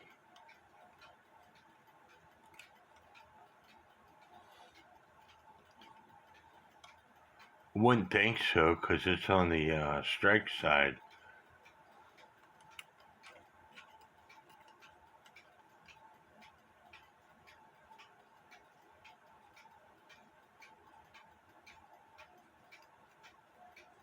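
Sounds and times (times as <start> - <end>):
alarm clock ticking: 0.0 - 24.0.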